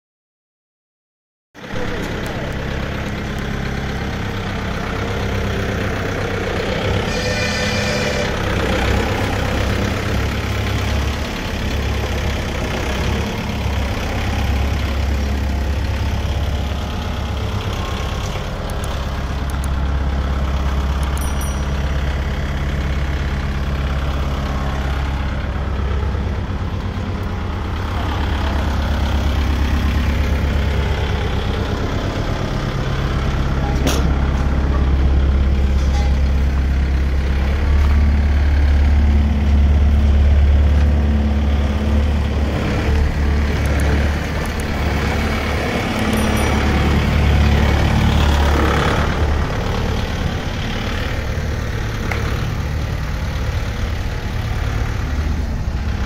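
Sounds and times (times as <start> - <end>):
tractor diesel engine idling: 1.6 - 56.0.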